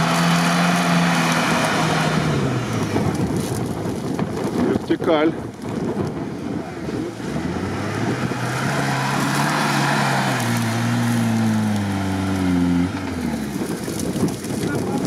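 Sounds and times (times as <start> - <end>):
car engine labouring: 0.0 - 5.0, 6.0 - 15.0.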